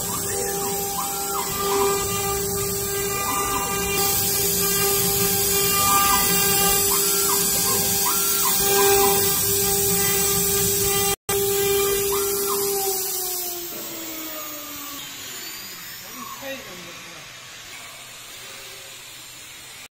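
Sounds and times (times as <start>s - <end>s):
router spindle whining: 0.0s - 18.2s
axis motors whining: 0.0s - 18.8s.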